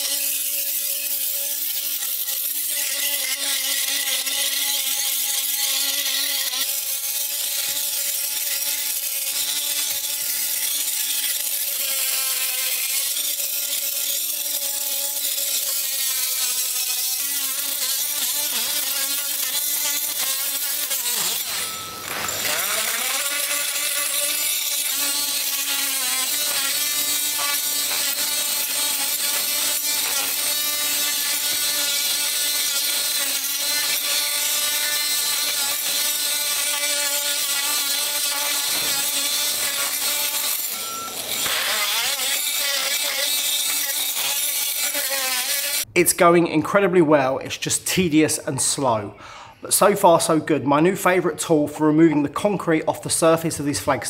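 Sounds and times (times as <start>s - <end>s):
blade scraping concrete off stone: 0.0s - 45.9s
oscillating multi-tool whining: 0.0s - 45.9s.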